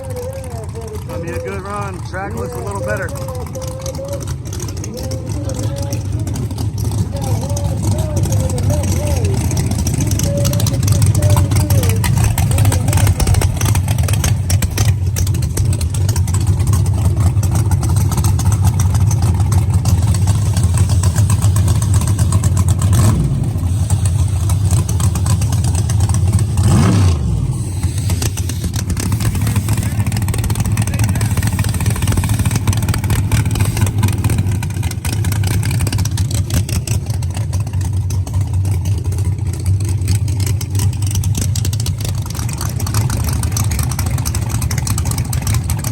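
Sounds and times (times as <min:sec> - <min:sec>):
race car engines rumbling: 0:00.0 - 0:45.9.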